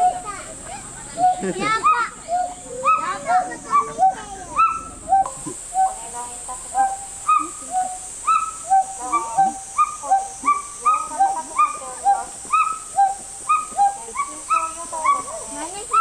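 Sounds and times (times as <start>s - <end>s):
gibbon hooting: 1.2s - 16.0s.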